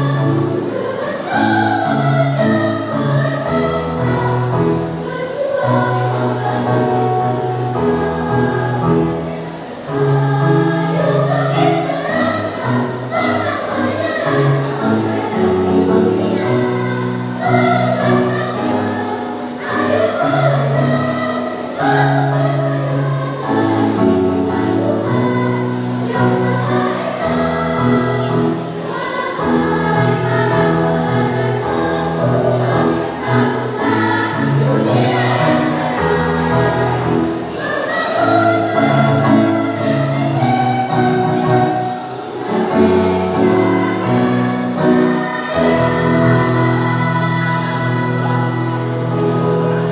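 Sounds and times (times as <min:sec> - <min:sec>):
children's choir singing: 0:00.0 - 0:49.9.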